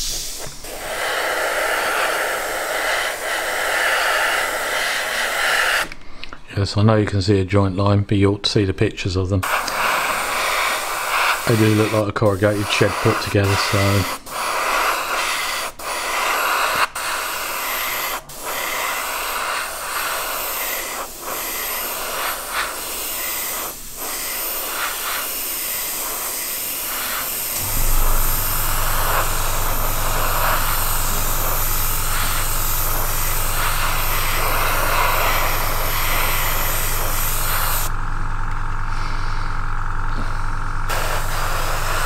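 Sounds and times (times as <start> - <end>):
airbrush spraying hiss: 0.0 - 6.0, 9.4 - 38.0, 40.2 - 42.0
air compressor humming: 0.0 - 6.2, 9.4 - 42.0.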